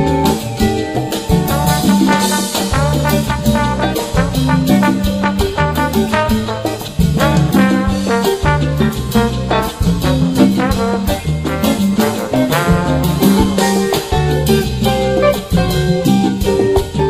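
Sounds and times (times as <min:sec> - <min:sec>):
upbeat music with horns: 0:00.0 - 0:17.0.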